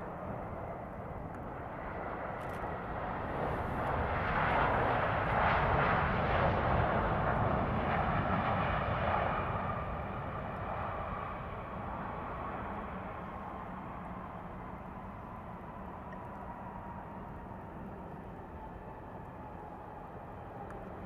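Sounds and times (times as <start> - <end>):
jet engines in reverse thrust: 0.0 - 21.0.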